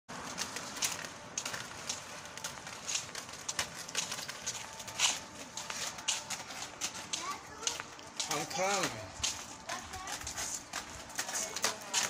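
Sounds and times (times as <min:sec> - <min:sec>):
roller skate wheels on concrete: 0:00.1 - 0:12.0.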